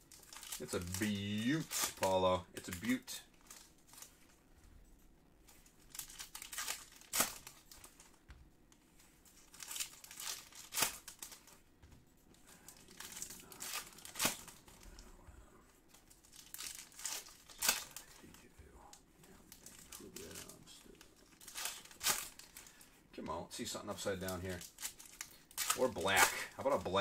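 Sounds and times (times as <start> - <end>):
foil wrappers crinkling and tearing: 0.0 - 4.4, 5.4 - 8.2, 9.2 - 11.6, 12.4 - 15.2, 15.9 - 18.5, 19.3 - 23.0, 23.8 - 27.0
cards being shuffled: 0.0 - 23.0, 23.9 - 27.0.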